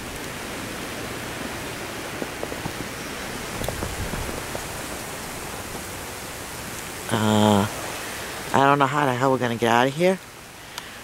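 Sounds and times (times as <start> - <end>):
wind and snow hissing: 0.0 - 8.8.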